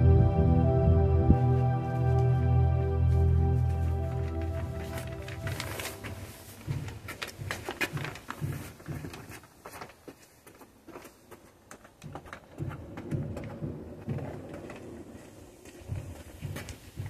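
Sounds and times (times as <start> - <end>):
footsteps on paving: 3.1 - 17.0.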